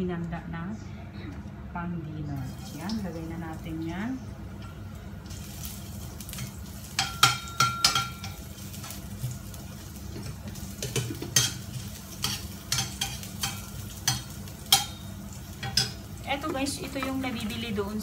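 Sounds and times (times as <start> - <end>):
steady low hum: 0.0 - 18.0
oil sizzling: 2.4 - 18.0.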